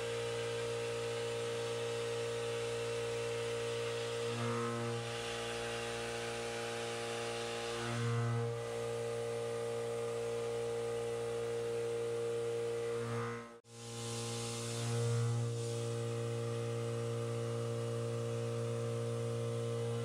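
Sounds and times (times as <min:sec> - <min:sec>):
milling machine hum with tones: 0:00.0 - 0:20.0.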